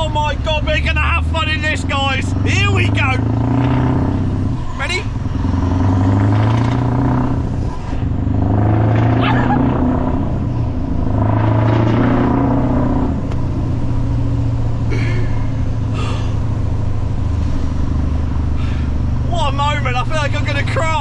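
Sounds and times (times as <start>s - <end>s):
truck engine accelerating: 0.0s - 21.0s.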